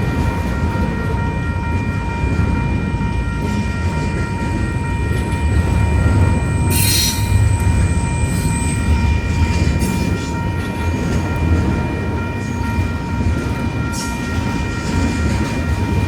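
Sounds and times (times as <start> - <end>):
train rumbling past: 0.0 - 16.0
wind buffeting microphone: 0.0 - 16.0
high ringing tone: 1.1 - 16.0.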